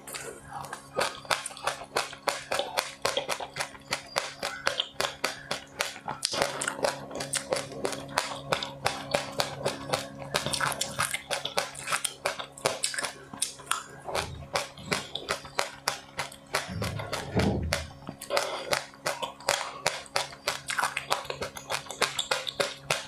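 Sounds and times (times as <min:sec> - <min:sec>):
crunchy snack being chewed: 0:00.0 - 0:23.0.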